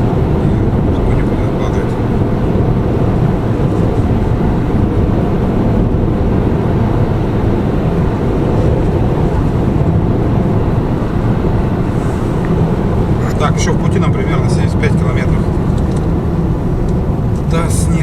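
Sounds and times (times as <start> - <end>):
road and engine rumble in car cabin: 0.0 - 18.0.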